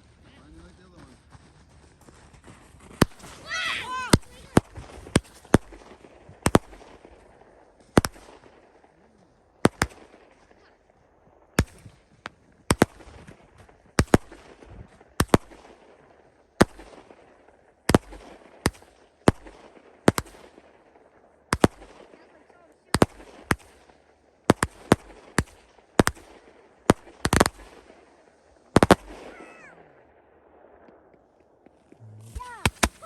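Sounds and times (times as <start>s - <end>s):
fireworks exploding: 0.0s - 33.0s.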